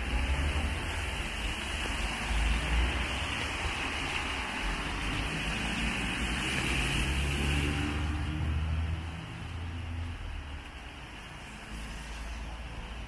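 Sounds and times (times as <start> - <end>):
rain on wet street: 0.0 - 13.0.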